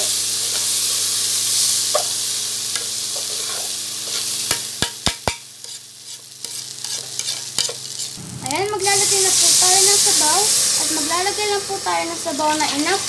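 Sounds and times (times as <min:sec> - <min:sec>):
rice sizzling in oil: 0:00.0 - 0:13.0.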